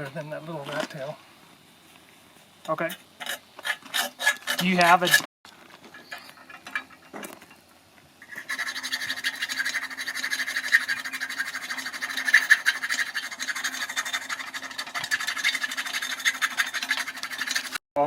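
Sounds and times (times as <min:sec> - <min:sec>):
scratching and rasping on metal: 0:02.7 - 0:07.6, 0:08.2 - 0:17.8.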